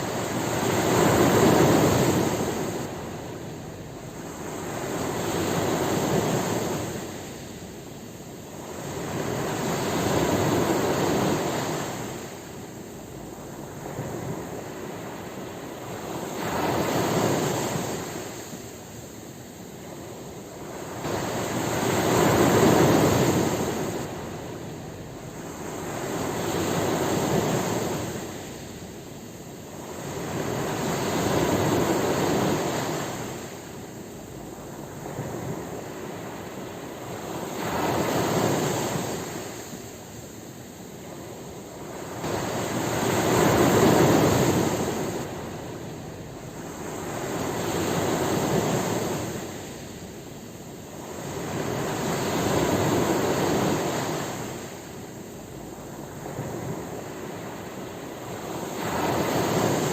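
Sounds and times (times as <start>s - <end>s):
ocean waves surging onto shore: 0.0s - 59.9s.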